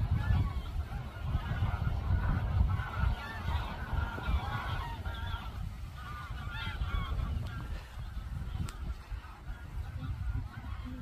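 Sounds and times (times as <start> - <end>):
geese honking in flight: 0.0 - 11.0.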